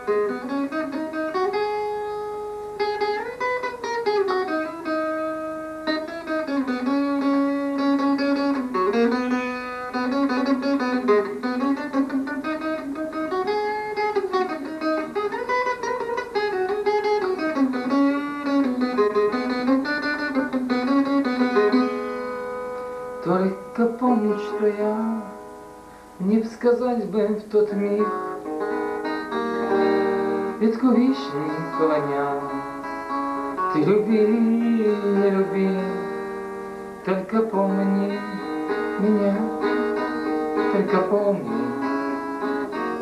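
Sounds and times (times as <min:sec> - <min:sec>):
acoustic guitar picking: 0:00.0 - 0:43.0
wordless melody line: 0:00.0 - 0:43.0.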